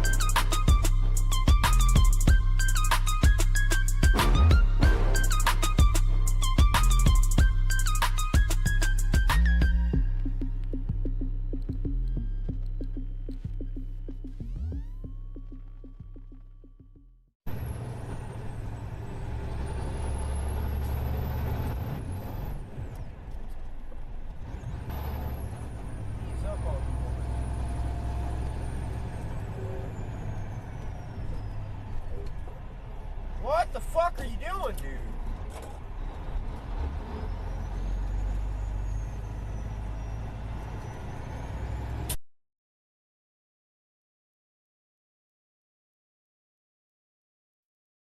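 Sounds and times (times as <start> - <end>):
engine and road rumble: 0.0 - 42.2.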